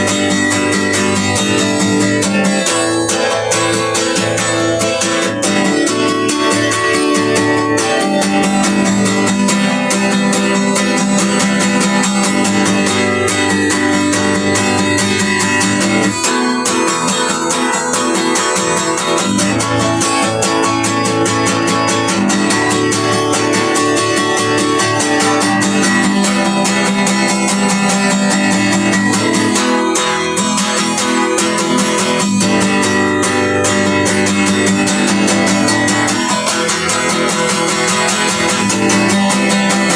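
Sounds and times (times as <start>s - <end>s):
guitar music: 0.0s - 39.9s.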